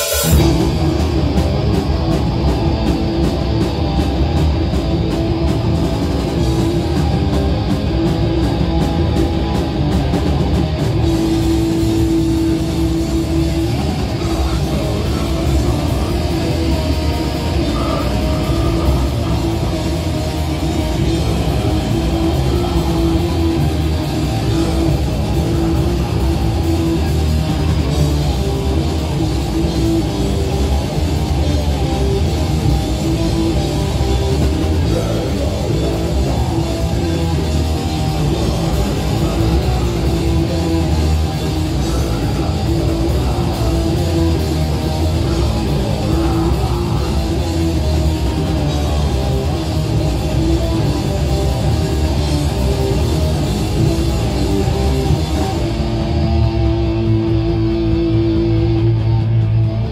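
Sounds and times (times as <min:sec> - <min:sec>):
heavy rock band playing: 0:00.0 - 0:59.9.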